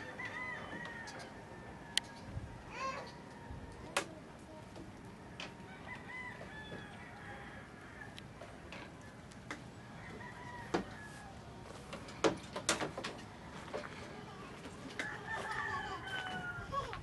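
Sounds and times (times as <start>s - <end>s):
chickens clucking and crowing: 0.0s - 17.0s
yard background: 0.0s - 17.0s.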